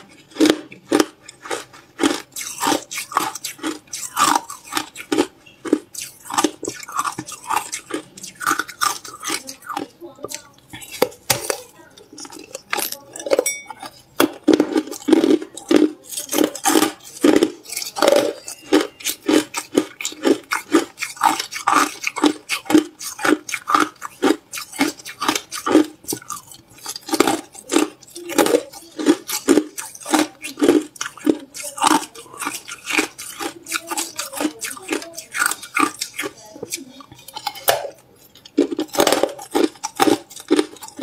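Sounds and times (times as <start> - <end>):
ice being chewed: 0.0 - 41.0.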